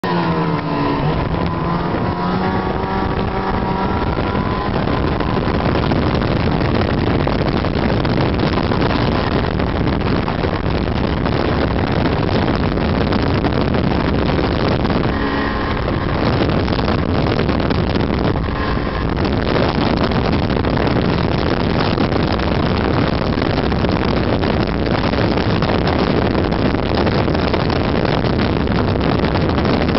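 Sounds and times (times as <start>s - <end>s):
snowmobile engine running: 0.0s - 29.9s.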